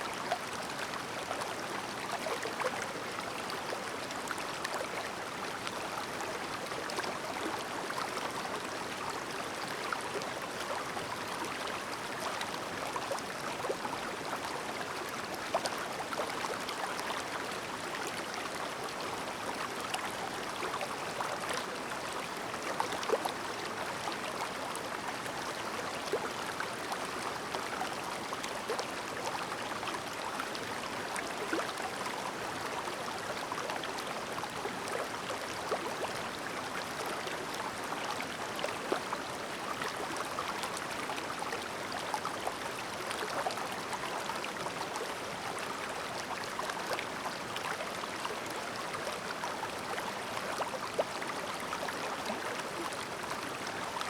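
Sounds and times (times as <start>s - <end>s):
mountain stream babbling over stones: 0.0s - 54.0s.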